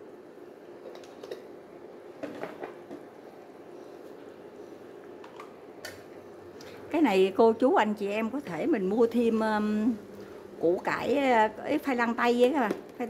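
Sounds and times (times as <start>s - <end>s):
induction cooktop humming: 0.0s - 13.0s.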